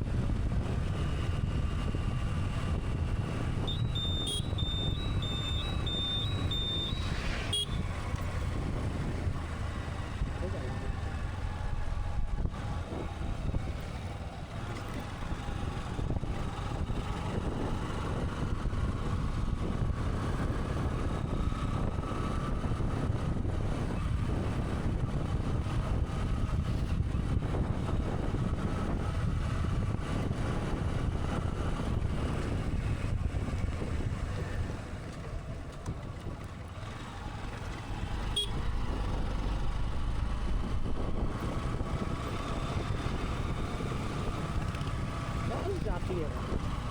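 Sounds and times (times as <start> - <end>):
motorcycle engine drone: 0.0 - 46.9
wind rumble on microphone: 0.0 - 46.9.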